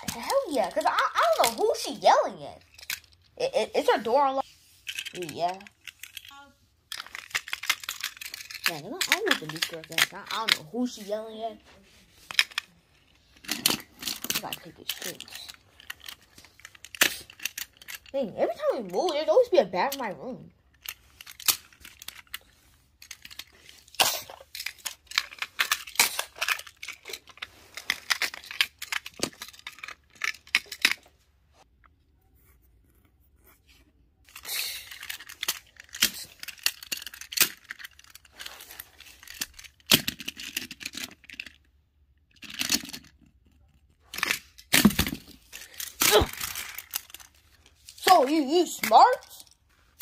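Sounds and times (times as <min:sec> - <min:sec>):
toy cars clicking and scraping: 0:00.0 - 0:31.3, 0:33.6 - 0:50.0.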